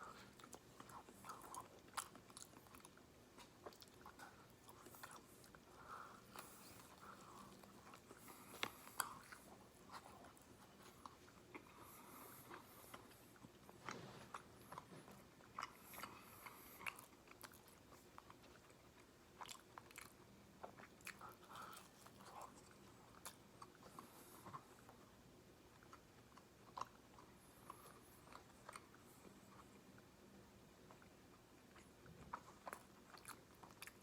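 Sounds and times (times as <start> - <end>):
person chewing crispy food: 0.1 - 24.9, 25.7 - 29.7, 30.9 - 34.0.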